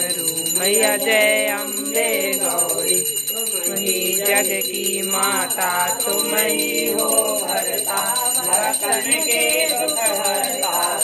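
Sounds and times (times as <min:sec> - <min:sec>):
small bell ringing rapidly: 0:00.0 - 0:11.0.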